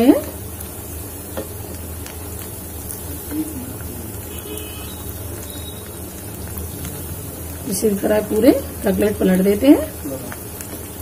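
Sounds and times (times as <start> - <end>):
cutlets sizzling in hot oil: 0.0 - 11.0.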